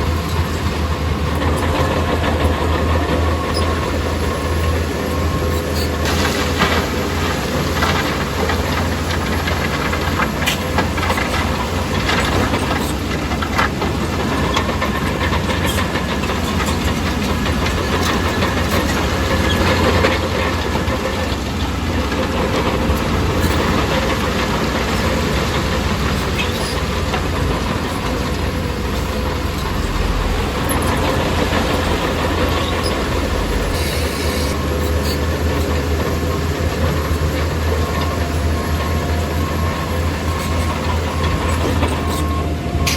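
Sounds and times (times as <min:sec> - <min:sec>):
bulldozer diesel engine running: 0:00.0 - 0:42.9
steel tracks clanking: 0:00.0 - 0:42.9.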